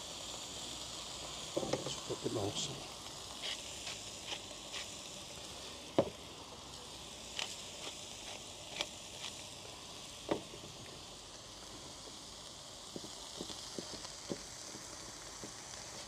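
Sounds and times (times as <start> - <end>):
food frying on a griddle: 0.0 - 16.0
sharp pops and crackles: 1.2 - 6.2, 7.2 - 9.6, 10.2 - 16.0.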